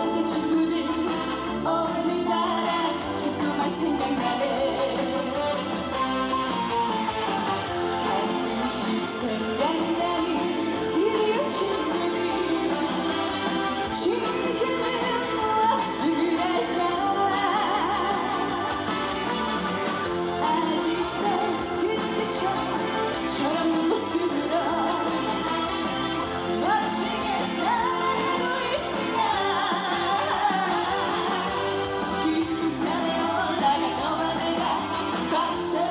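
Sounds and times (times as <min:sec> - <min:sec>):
live band playing trot music: 0:00.0 - 0:35.9
person singing: 0:00.0 - 0:35.9.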